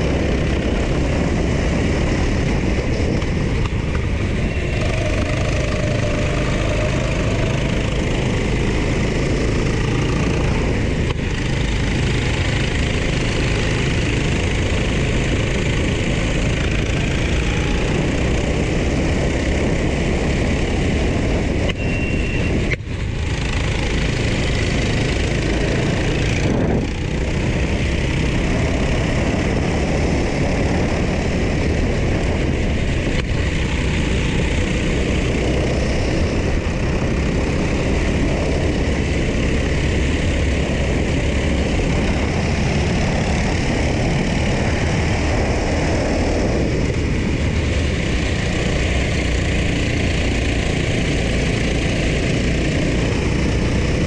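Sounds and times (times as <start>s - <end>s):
go-kart engine running hard: 0.0s - 54.0s
wind rush: 0.0s - 54.0s.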